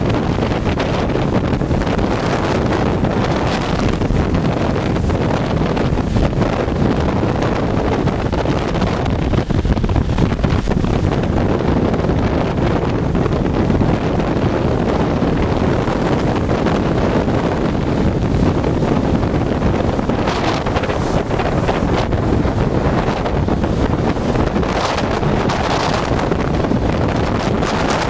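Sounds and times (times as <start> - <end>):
storm waves breaking: 0.0 - 28.0
wind buffeting microphone: 0.0 - 28.0.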